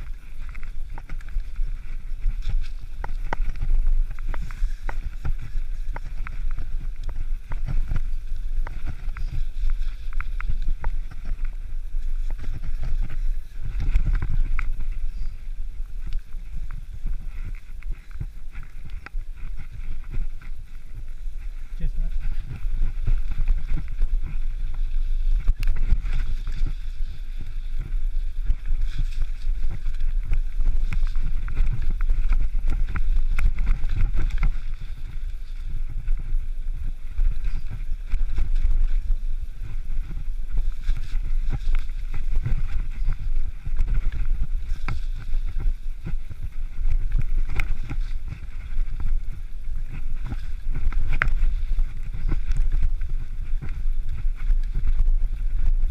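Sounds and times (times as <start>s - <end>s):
bike rattling over stones: 0.0s - 55.9s
bike tyres rumbling: 0.0s - 55.9s
wind: 0.0s - 55.9s.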